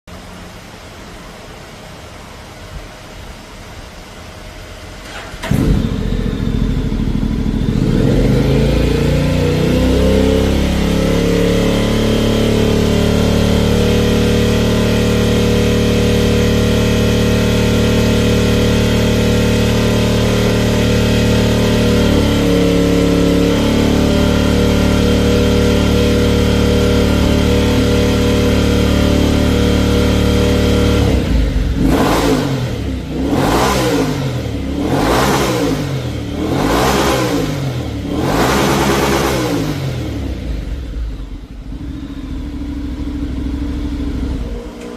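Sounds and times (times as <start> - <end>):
motorcycle engine idling and revving: 4.6 - 44.9.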